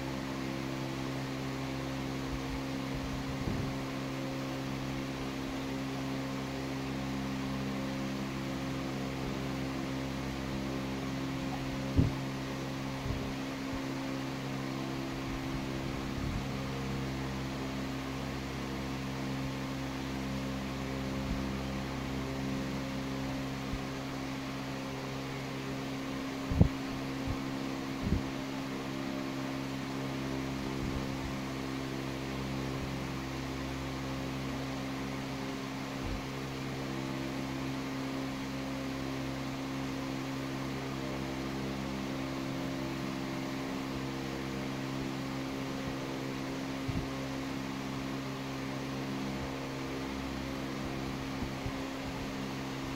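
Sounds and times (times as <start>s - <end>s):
fan-like mechanical hum: 0.0s - 52.9s.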